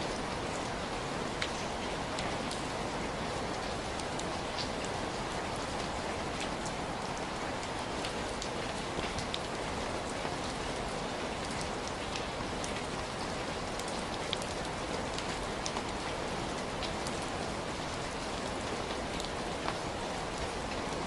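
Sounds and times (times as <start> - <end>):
raindrops ticking on hard surface: 0.1 - 21.0.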